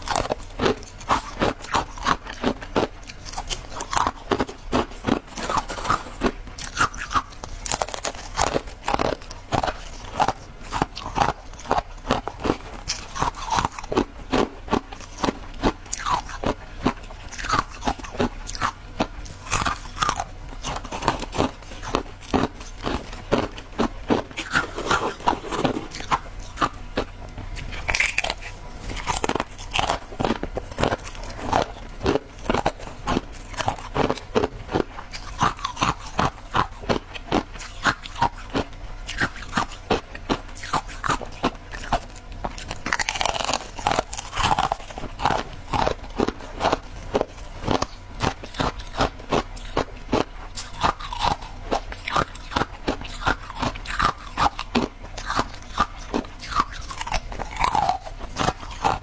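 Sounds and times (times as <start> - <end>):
crunchy ice chewing: 0.0 - 59.0.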